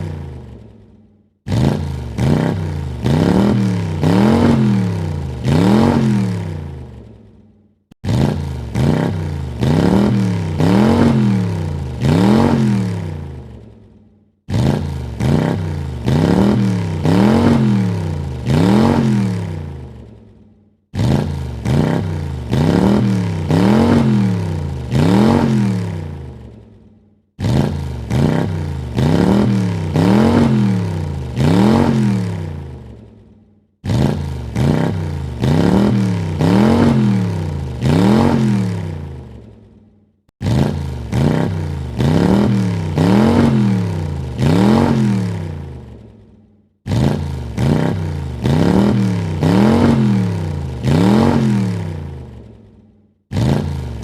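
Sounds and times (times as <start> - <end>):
car engine revving: 1.5 - 7.1, 8.0 - 13.7, 14.5 - 20.2, 20.9 - 26.6, 27.4 - 33.0, 33.8 - 39.5, 40.4 - 46.1, 46.9 - 52.5, 53.3 - 54.0.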